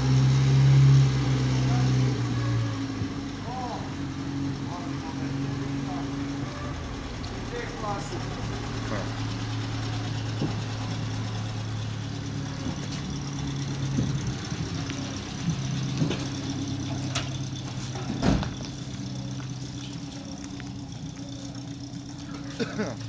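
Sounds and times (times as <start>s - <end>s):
car engine running under load: 0.0s - 23.0s.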